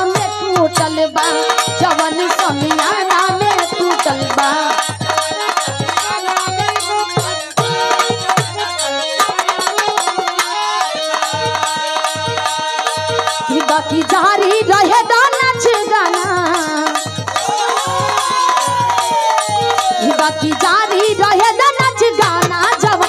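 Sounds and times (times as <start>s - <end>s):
tabla beat: 0.0s - 23.0s.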